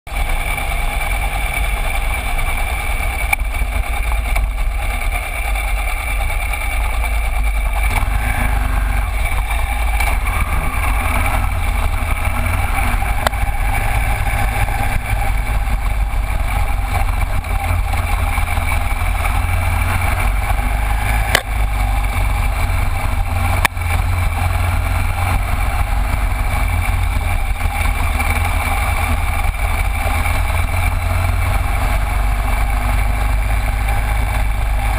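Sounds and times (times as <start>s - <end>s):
motorcycle engine running: 0.1s - 34.9s
wind and tyre noise: 0.1s - 34.9s.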